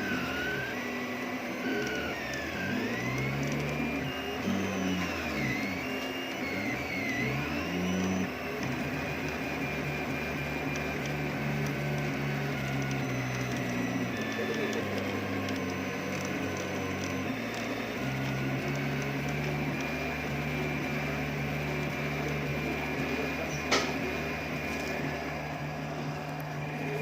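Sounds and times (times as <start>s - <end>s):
stepper motors whining: 0.0s - 27.0s.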